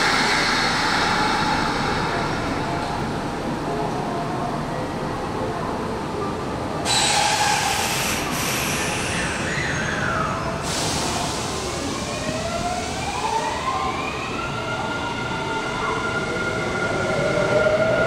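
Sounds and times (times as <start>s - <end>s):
wheels rumbling on rail: 0.0s - 18.0s.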